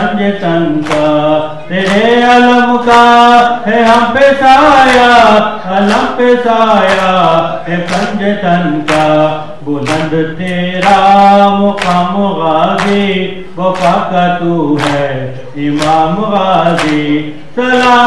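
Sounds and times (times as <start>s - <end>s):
voices chanting a lament: 0.0s - 18.0s.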